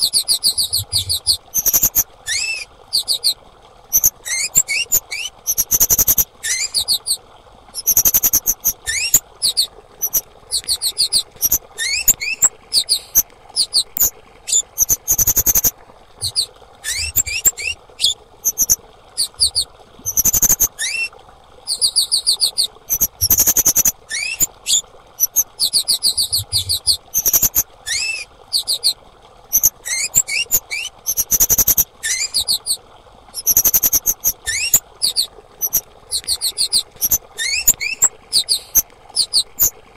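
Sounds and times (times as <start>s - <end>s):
bird high trilled chirps: 0.3s - 3.4s, 4.0s - 7.2s, 7.8s - 21.1s, 21.7s - 32.6s, 33.4s - 39.7s.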